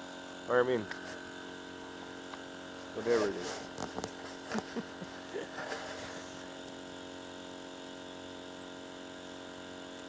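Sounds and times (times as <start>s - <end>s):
electric air pump humming: 0.0s - 10.0s.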